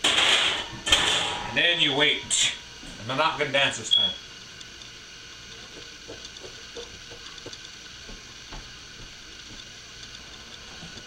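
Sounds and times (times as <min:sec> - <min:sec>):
food sizzling in a pan: 0:00.0 - 0:10.8.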